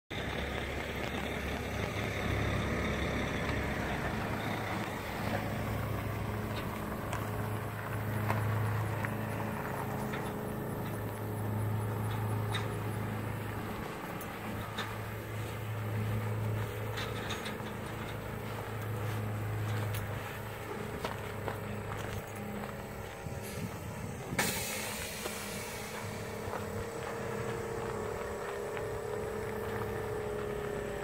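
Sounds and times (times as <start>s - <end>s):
gravel clicking under tyres: 0.1s - 31.0s
truck engine running: 0.1s - 31.0s.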